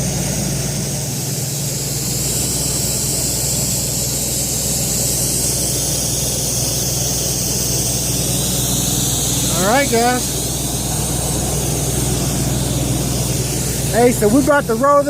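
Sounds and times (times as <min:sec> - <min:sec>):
engine running steadily: 0:00.0 - 0:15.0
high hiss: 0:00.6 - 0:15.0.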